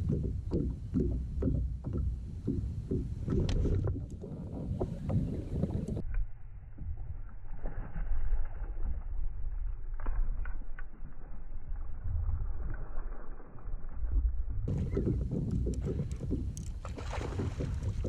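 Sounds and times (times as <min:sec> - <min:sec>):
rumble of wind and water: 0:00.0 - 0:18.0.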